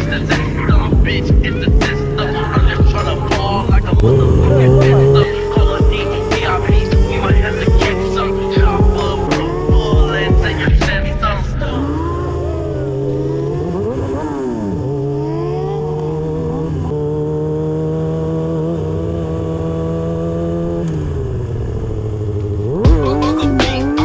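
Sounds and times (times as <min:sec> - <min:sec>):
motorcycle engine under throttle: 0:00.0 - 0:24.0.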